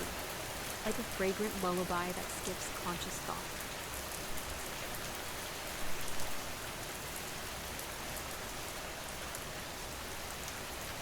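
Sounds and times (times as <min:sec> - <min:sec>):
rain hiss: 0:00.0 - 0:11.0
raindrops pattering: 0:00.0 - 0:11.0.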